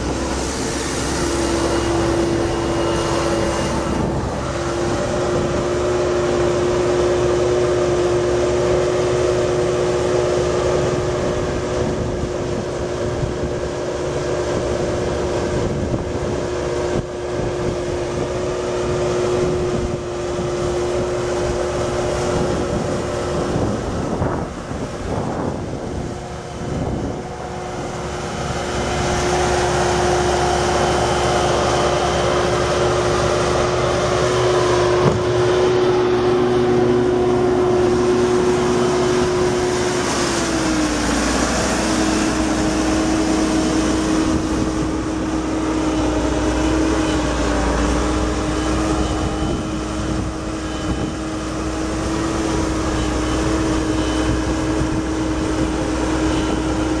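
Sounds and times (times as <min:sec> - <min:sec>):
diesel skid steer running: 0:00.0 - 0:57.0
steady whine: 0:00.0 - 0:57.0.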